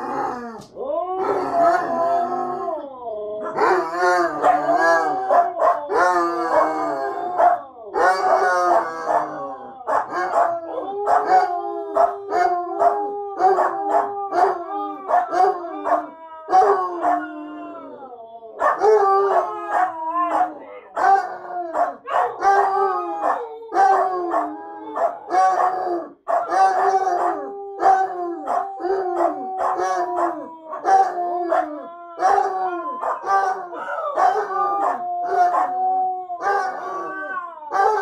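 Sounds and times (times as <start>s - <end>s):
dogs howling together: 0.0s - 38.0s.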